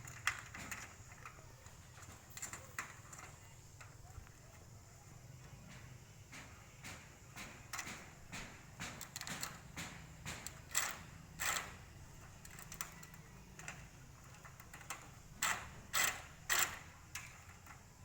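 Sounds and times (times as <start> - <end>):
objects clicking and knocking: 0.0 - 4.3, 5.7 - 18.0.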